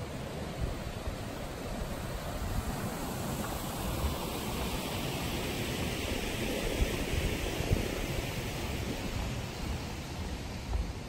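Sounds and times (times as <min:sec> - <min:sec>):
stream water rushing: 0:00.0 - 0:11.0
wind rumbling on microphone: 0:00.0 - 0:11.0.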